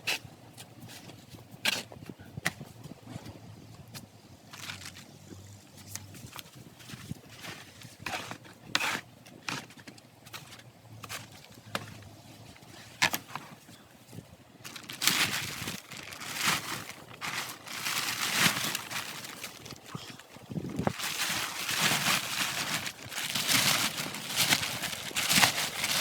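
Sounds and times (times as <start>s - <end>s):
rustling and scraping of covers: 0.0s - 26.0s.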